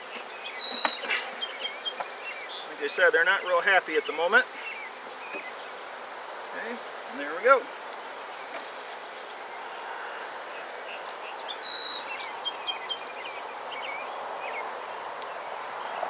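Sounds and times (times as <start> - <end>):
songbird singing: 0.0 - 6.1, 6.8 - 16.0
outdoor background hiss: 0.0 - 16.0.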